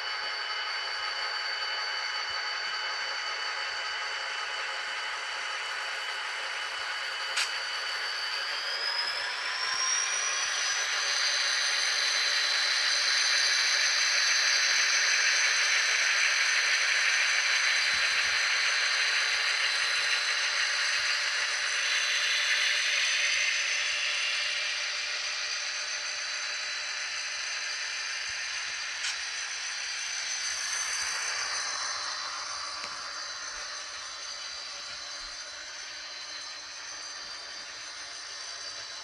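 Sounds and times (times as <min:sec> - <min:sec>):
model train running: 0:00.0 - 0:39.0.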